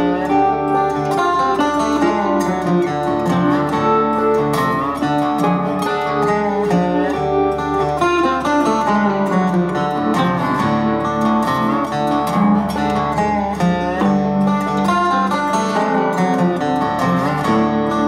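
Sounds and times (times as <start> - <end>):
acoustic guitar background music: 0.0 - 18.0.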